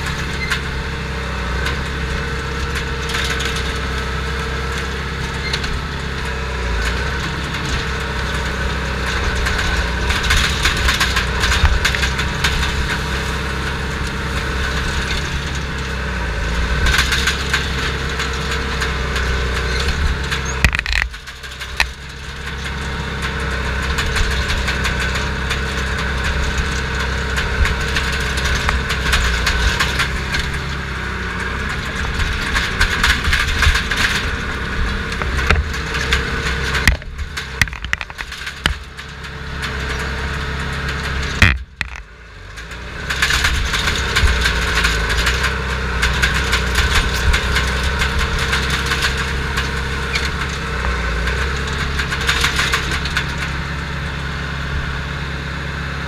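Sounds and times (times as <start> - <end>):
diesel engine running: 0.0 - 56.0
metallic clatter of tracks: 1.6 - 54.4.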